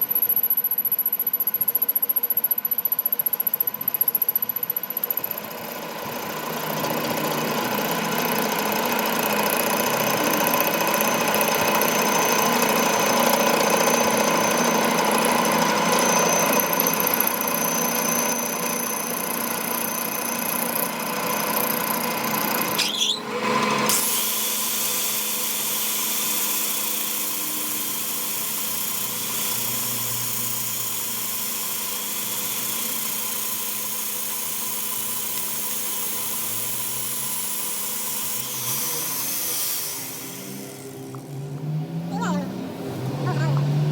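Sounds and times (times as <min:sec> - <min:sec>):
machine tool cutting metal: 0:03.5 - 0:41.4.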